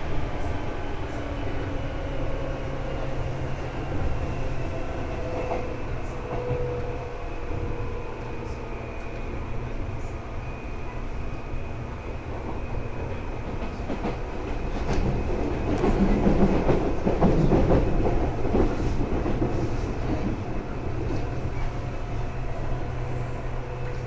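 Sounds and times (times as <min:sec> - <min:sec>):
train running gear hum: 0:00.0 - 0:24.0.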